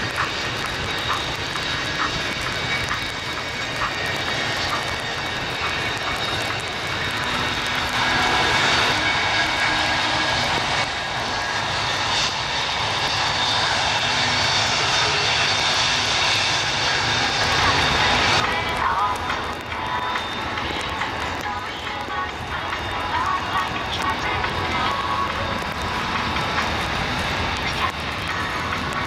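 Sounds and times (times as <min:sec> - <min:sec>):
jet engines whining in flight: 0:00.0 - 0:29.0.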